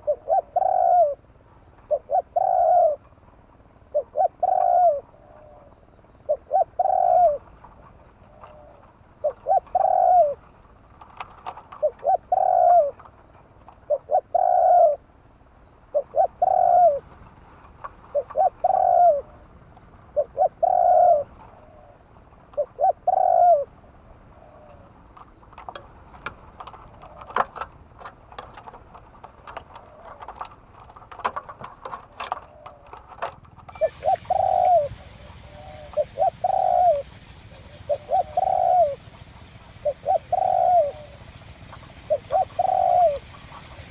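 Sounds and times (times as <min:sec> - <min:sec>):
dove cooing: 0:00.0 - 0:15.1, 0:15.9 - 0:43.9.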